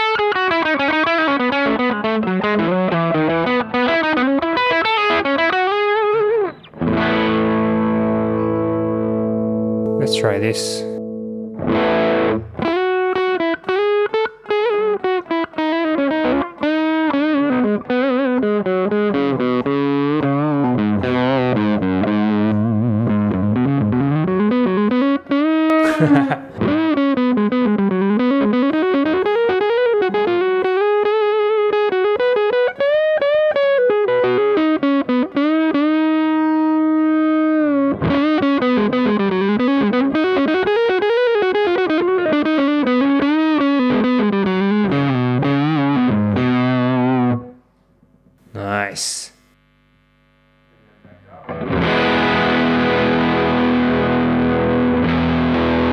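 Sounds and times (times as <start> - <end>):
overdriven electric guitar: 0.0 - 48.6, 49.4 - 55.9.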